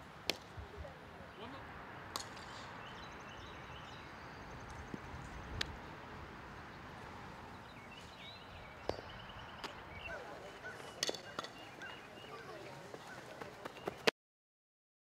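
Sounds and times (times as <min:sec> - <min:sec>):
small birds chirping: 0:01.3 - 0:14.1.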